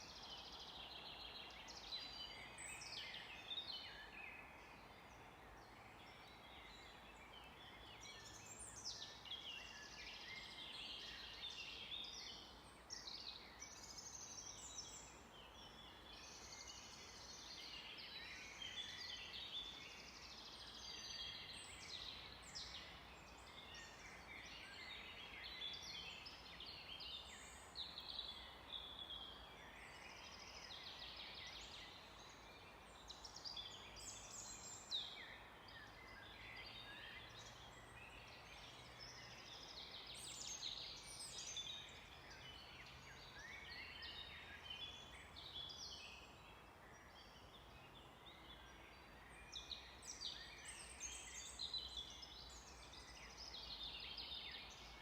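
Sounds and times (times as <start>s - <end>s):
faint background hiss: 0.0s - 55.0s
songbirds chirping: 0.0s - 55.0s.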